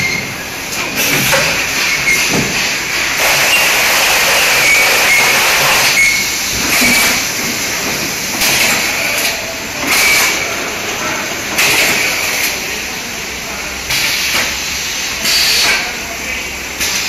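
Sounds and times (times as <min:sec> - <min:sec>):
carton packing line running: 0:00.0 - 0:17.0.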